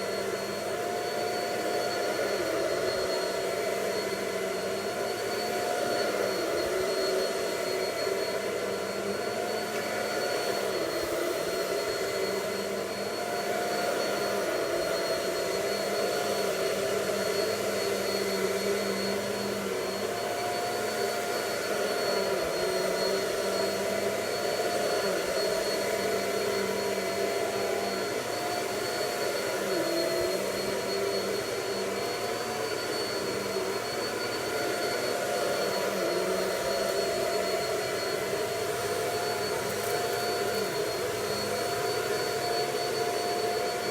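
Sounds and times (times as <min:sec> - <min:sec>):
vacuum cleaner running on carpet: 0:00.0 - 0:43.9.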